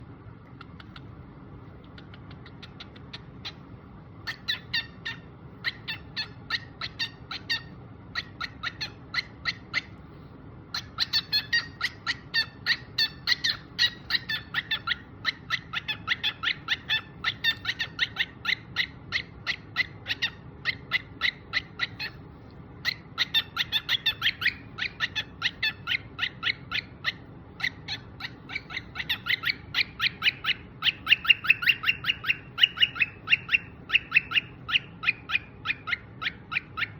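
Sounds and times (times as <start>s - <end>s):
cockatiel chirping: 1.8s - 10.0s, 10.7s - 36.9s.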